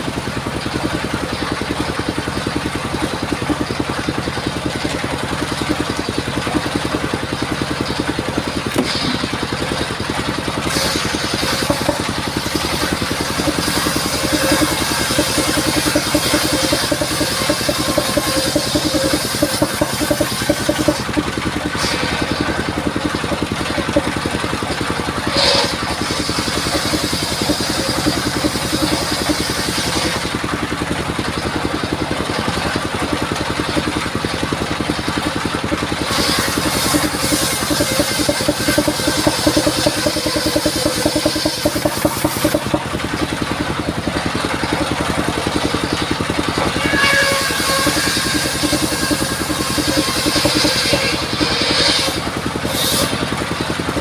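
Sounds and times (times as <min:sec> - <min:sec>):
saw blade cutting wood: 0:00.0 - 0:54.0
saw mill engine running: 0:00.0 - 0:54.0.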